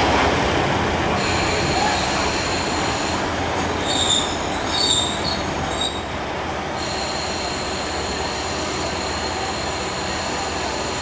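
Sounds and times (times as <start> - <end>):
train rolling rumble: 0.0 - 11.0
train wheels squealing: 1.2 - 11.0.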